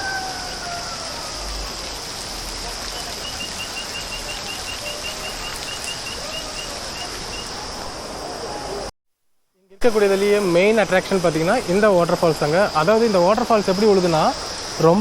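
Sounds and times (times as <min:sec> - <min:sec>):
water pouring down waterfall: 0:00.0 - 0:08.9, 0:09.8 - 0:15.0.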